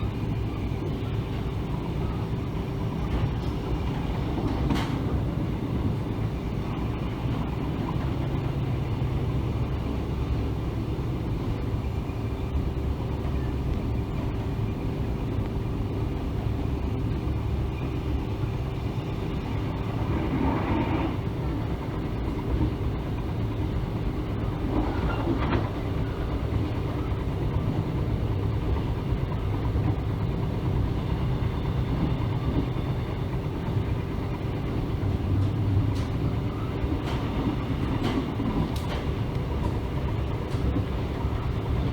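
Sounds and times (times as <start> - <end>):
train rumbling on track: 0.0 - 41.9.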